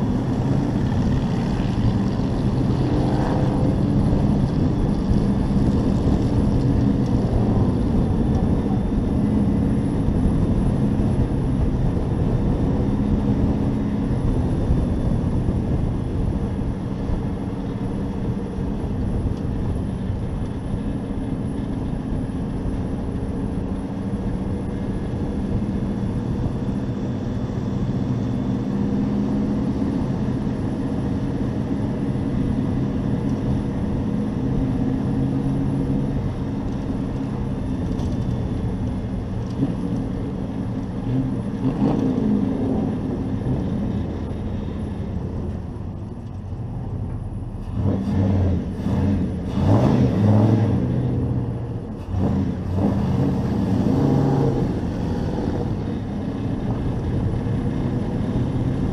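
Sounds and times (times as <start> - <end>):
race truck engine: 0.0 - 58.9
wind and road noise: 0.0 - 58.9.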